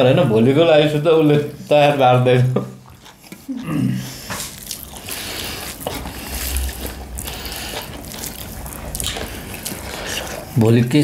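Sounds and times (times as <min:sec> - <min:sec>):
wet chewing and mixing of food: 0:00.0 - 0:11.0.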